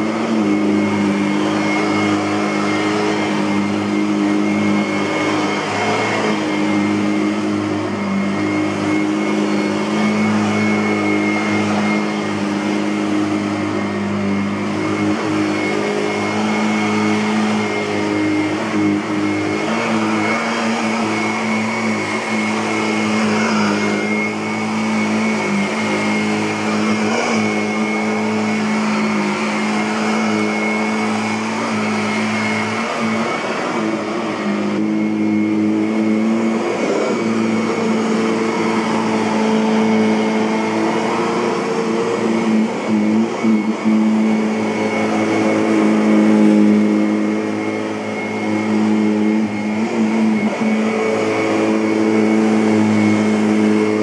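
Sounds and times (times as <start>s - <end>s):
vacuum cleaner on carpet: 0.0s - 54.0s.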